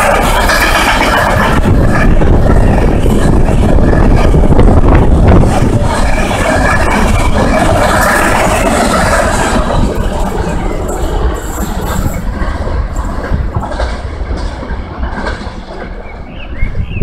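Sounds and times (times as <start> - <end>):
freight train wagons rolling on rails: 0.0 - 17.0.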